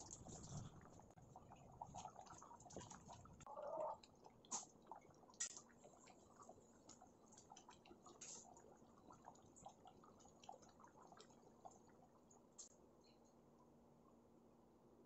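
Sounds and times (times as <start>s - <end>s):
thick gravy bubbling in a pan: 0.0s - 13.0s.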